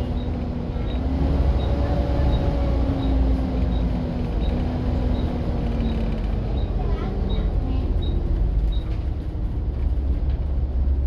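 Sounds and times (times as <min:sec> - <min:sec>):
bus engine rumble and whine: 0:00.0 - 0:11.0.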